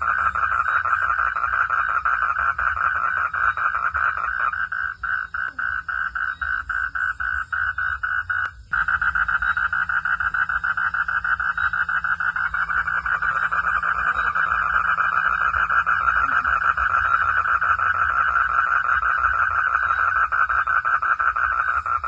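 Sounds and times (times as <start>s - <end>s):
frogs calling in pulses: 0.0s - 22.0s.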